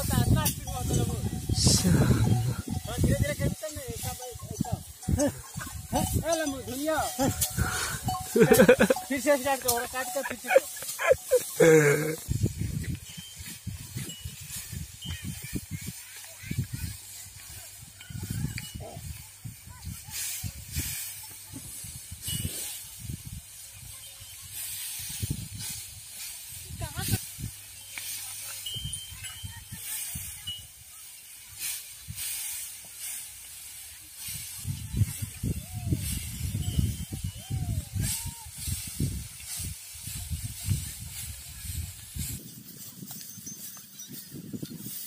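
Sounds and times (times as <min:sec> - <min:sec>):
dry straw rustling and swishing: 0:00.0 - 0:45.0.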